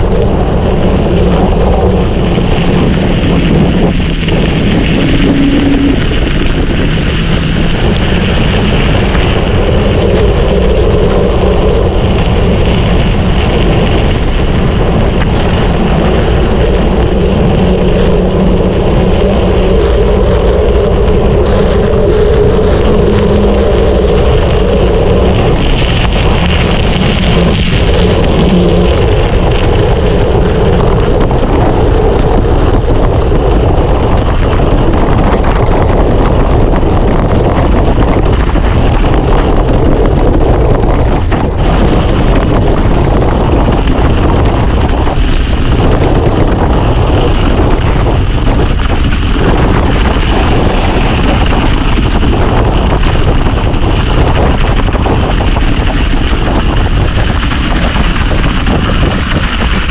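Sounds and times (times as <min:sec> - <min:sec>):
rolling tyre and trail noise: 0:00.0 - 0:59.9
wind buffeting microphone: 0:00.0 - 0:59.9.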